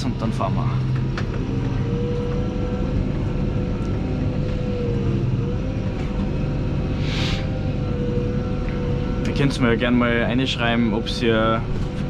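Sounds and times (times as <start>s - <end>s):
tractor engine drone with whine: 0.0s - 12.0s.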